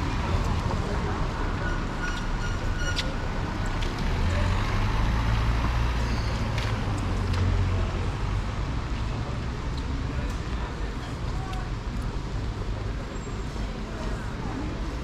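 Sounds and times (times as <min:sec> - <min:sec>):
traffic hum: 0:00.0 - 0:15.0
vehicle engine rumbling: 0:00.0 - 0:15.0.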